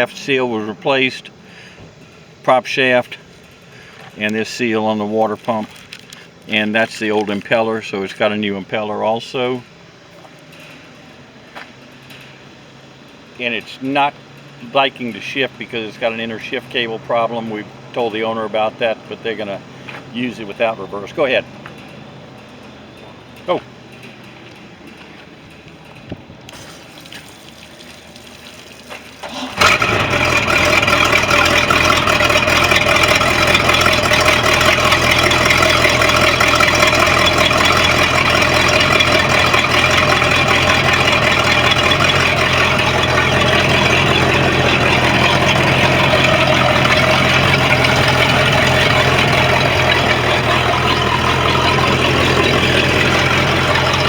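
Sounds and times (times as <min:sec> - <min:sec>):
boat engine cranking and idling: 0:00.0 - 0:54.0.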